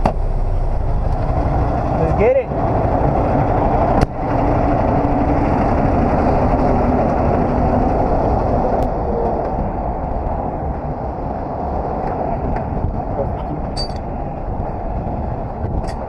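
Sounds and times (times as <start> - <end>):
heavy truck running: 0.0 - 16.0.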